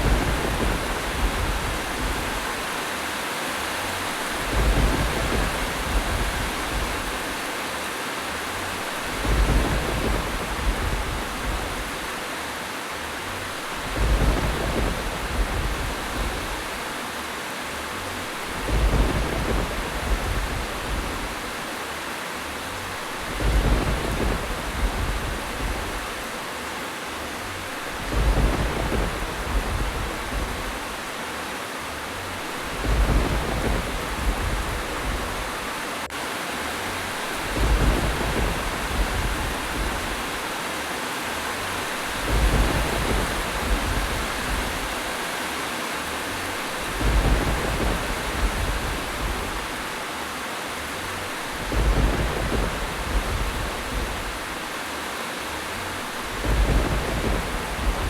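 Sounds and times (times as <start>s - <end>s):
low thunder rumble: 0.0s - 2.8s, 3.8s - 7.6s, 8.4s - 12.3s, 13.0s - 17.0s, 17.9s - 21.8s, 22.6s - 26.5s, 27.1s - 31.2s, 31.8s - 36.1s, 36.9s - 40.7s, 41.4s - 45.3s, 46.0s - 50.0s, 50.8s - 58.0s
heavy rain hiss: 0.0s - 58.0s.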